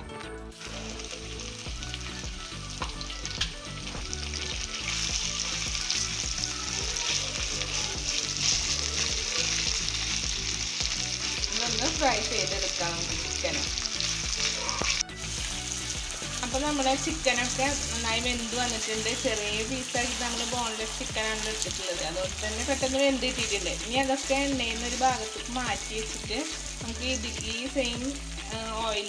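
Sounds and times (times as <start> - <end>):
chicken sizzling in oil: 0.5 - 29.0.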